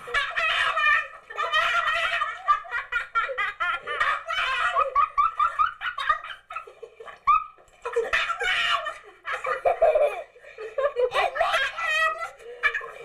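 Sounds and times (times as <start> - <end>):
person laughing hard: 0.0 - 13.0.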